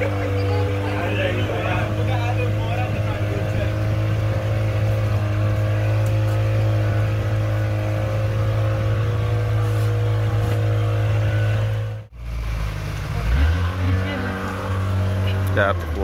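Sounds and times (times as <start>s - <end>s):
boat engine drone: 0.0s - 16.0s.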